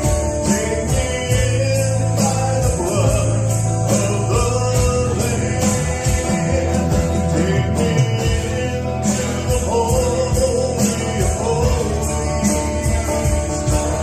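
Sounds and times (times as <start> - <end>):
live band playing gospel rock: 0.0 - 14.0
steady drum beat: 0.0 - 14.0.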